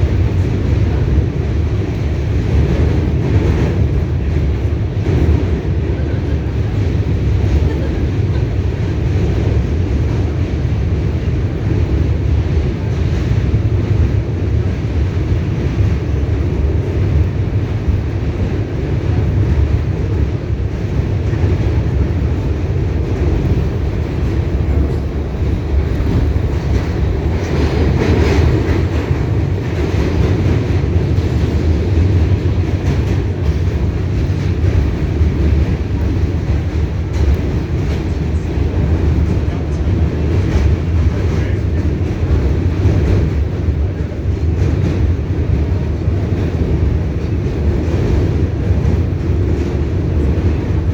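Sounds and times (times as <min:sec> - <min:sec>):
subway car wheels rumbling on rail: 0:00.0 - 0:50.9.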